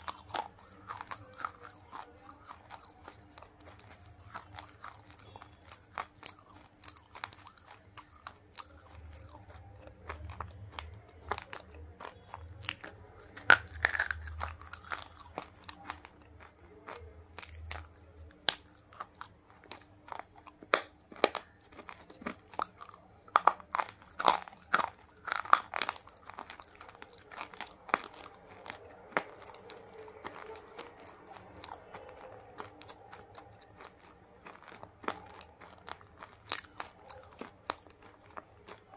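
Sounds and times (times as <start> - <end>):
crisp crunching of a bar: 0.0 - 38.9
quiet chewing: 0.0 - 38.9.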